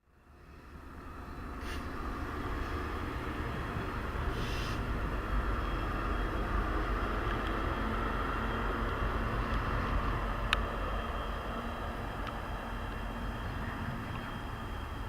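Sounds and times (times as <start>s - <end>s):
train rumbling past: 0.1s - 15.0s.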